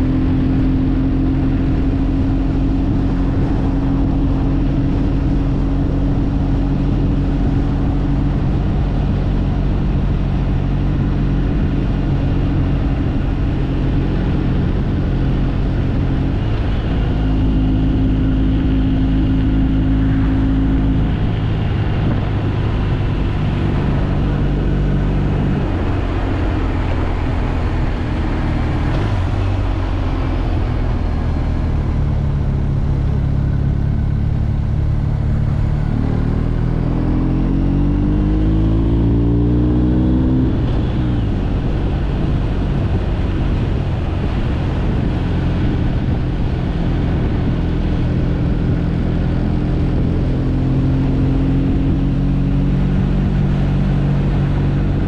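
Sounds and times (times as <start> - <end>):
motorcycle engine running: 0.0 - 55.0
road noise: 0.0 - 55.0.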